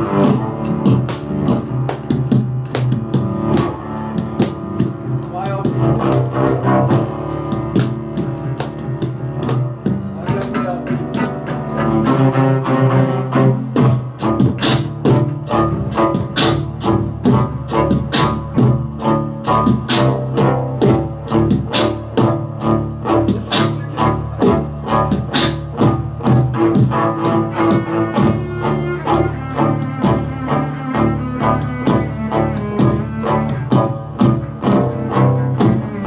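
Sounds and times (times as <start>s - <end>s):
cellos bowing: 0.0s - 36.0s
fast percussive beat: 0.0s - 36.0s.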